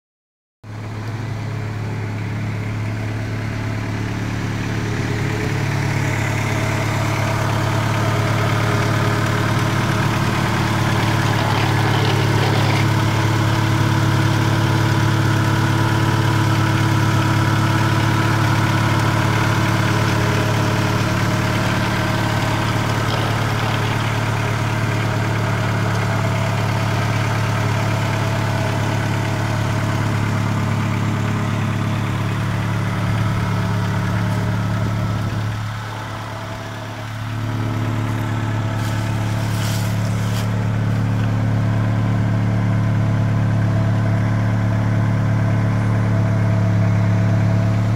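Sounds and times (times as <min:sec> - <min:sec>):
car engine idling: 0:00.7 - 0:47.9.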